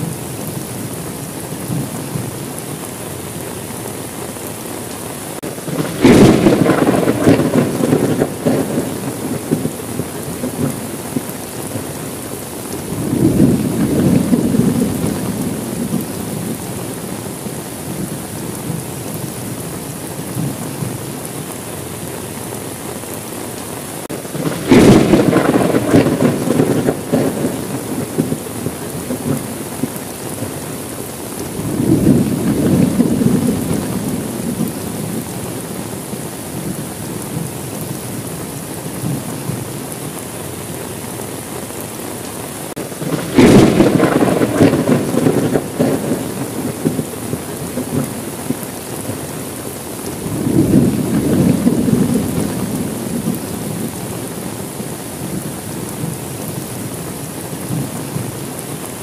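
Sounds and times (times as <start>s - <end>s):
thunder rumbling: 0.0s - 22.0s, 24.0s - 40.7s, 42.7s - 59.0s
heavy rain: 0.0s - 59.0s.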